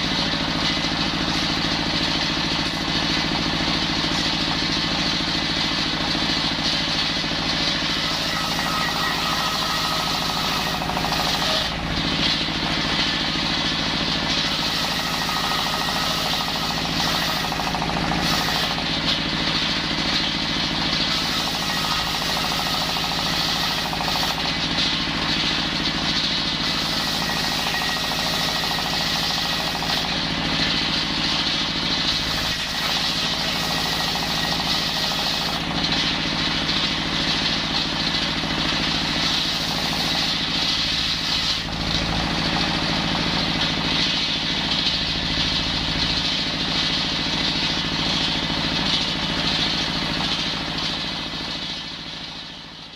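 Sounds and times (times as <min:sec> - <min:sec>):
engine-driven circular saw running: 0:00.0 - 0:52.9.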